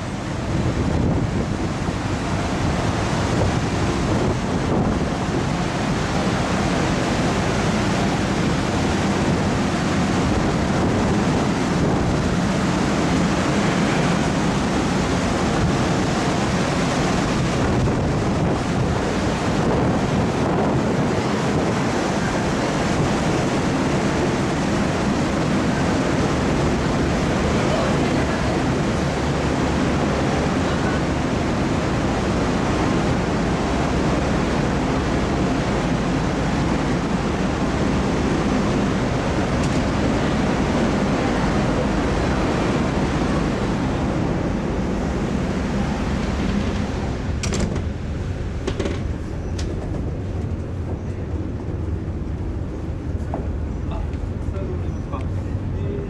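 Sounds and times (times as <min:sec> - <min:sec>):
constant low rumble: 0:00.0 - 0:56.0
sea rushing: 0:00.0 - 0:56.0.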